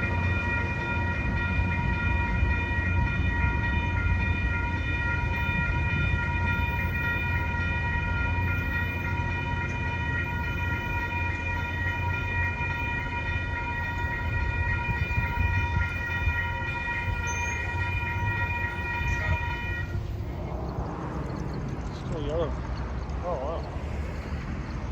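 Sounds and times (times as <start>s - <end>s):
train rumbling: 0.0s - 24.9s.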